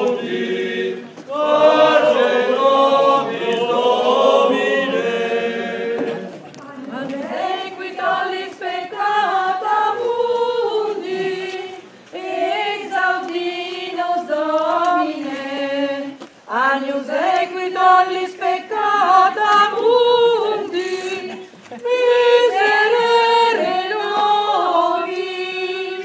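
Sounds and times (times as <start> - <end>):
congregation singing a hymn: 0.0 - 26.0.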